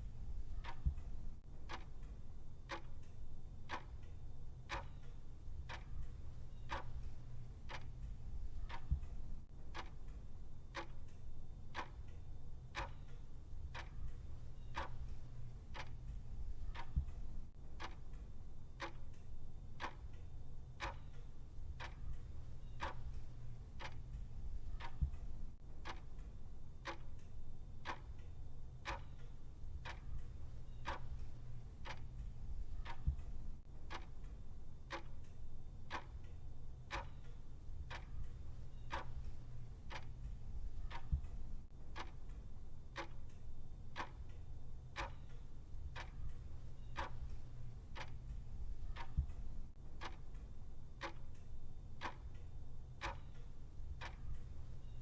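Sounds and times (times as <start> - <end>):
clock ticking: 0.0 - 55.0
faint low hum: 0.0 - 55.0.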